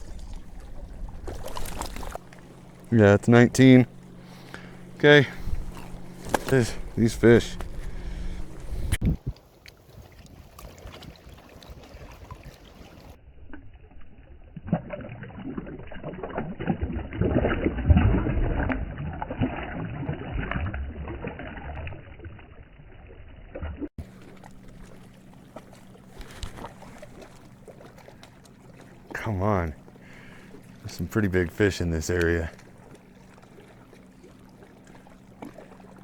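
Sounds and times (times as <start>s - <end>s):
water sloshing and splashing: 0.0s - 36.0s.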